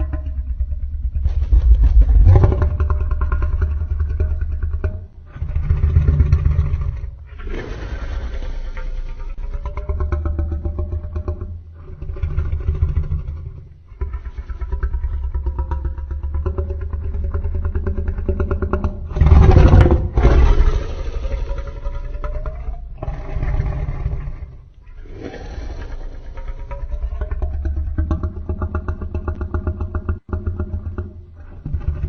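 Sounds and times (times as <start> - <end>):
deep pulsing creature growls: 0.0 - 32.0.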